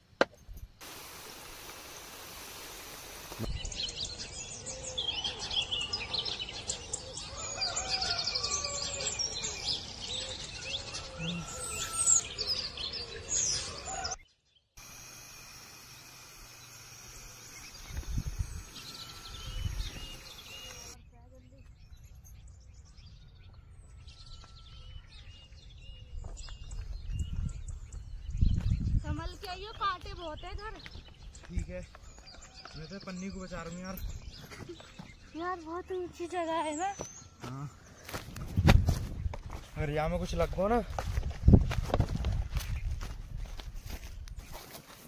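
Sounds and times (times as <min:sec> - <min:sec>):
outdoor background noise: 0:00.0 - 0:45.0
birds singing and chirping: 0:03.4 - 0:45.0.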